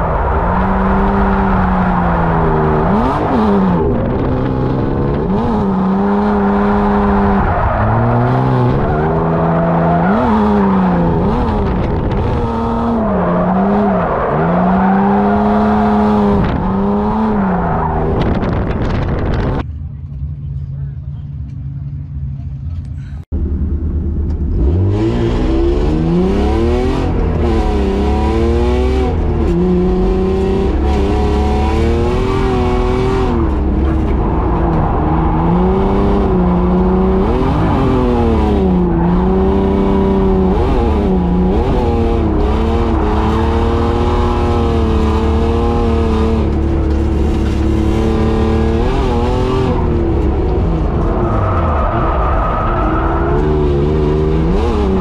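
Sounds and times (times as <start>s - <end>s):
car engine revving: 0.0s - 19.6s, 23.4s - 55.0s.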